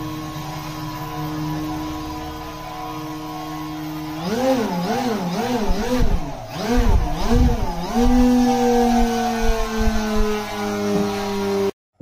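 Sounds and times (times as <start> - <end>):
electric propeller motor whine: 0.0 - 11.7.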